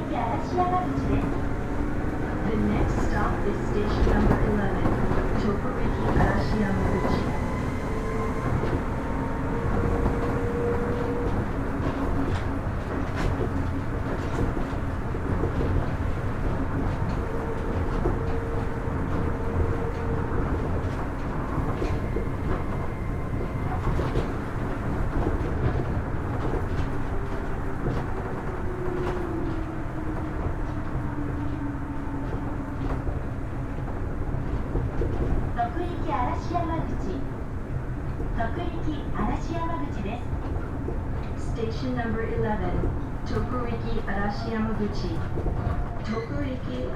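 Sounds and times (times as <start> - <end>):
monorail train rumble: 0.0 - 46.9.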